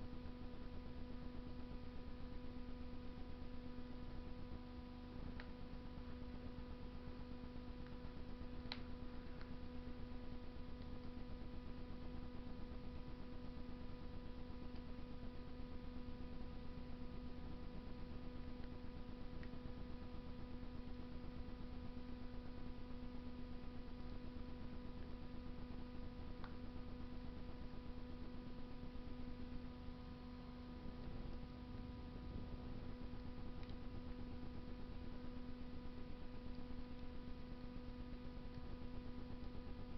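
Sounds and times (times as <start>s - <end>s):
constant steady hum: 0.0s - 39.9s
wood fire burning in stove: 0.0s - 39.9s.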